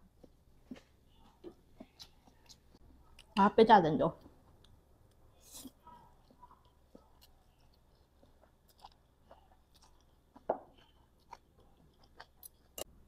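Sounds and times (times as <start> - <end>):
person chewing food: 0.0 - 3.4, 4.4 - 13.0.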